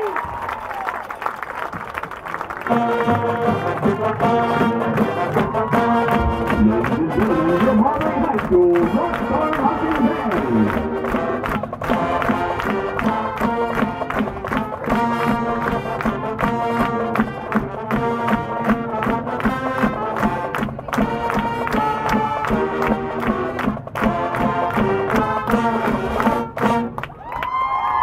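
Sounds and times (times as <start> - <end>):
marching band playing: 1.5 - 27.1.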